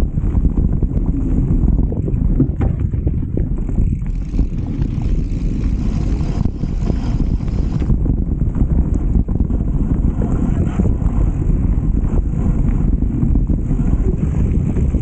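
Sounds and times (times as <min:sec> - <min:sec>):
mountain bike rattling on trail: 0:00.0 - 0:15.0
wind buffeting microphone: 0:00.0 - 0:15.0.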